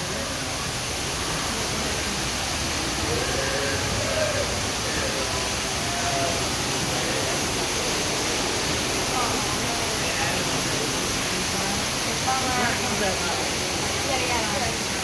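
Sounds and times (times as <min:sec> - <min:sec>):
faint distant voices: 0:00.0 - 0:15.0
rushing water: 0:00.0 - 0:15.0.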